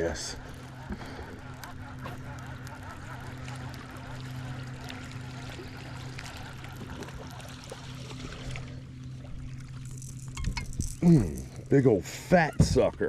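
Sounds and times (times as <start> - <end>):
boat motor humming: 0.0 - 13.0
water splashing against hull: 0.4 - 13.0.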